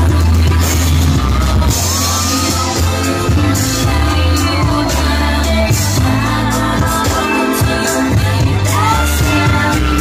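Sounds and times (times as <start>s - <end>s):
loud music with heavy bass: 0.0s - 10.0s
person singing into microphone: 0.0s - 10.0s.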